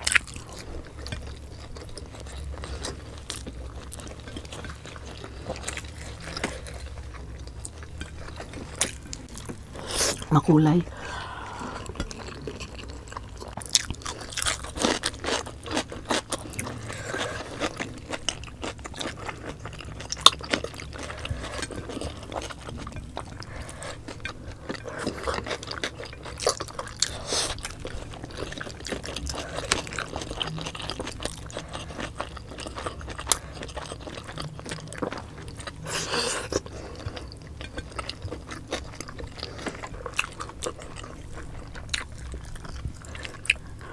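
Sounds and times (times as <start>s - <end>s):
chewing and wet mouth sounds: 0.0s - 43.9s.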